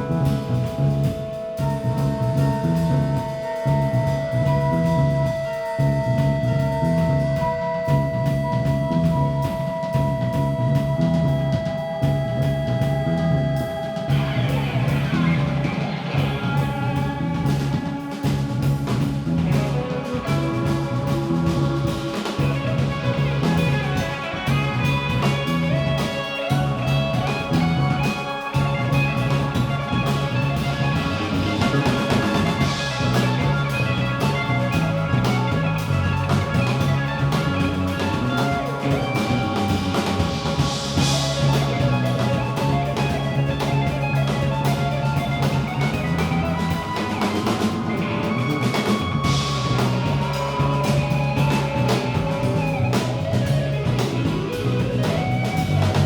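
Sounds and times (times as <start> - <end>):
live band playing instrumental: 0.0 - 56.0.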